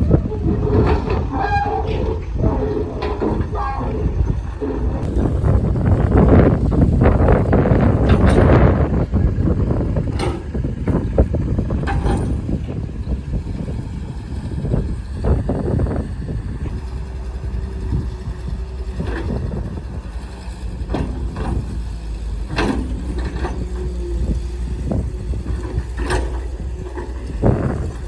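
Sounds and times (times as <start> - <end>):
diesel machinery engine rumble: 0.0 - 28.0.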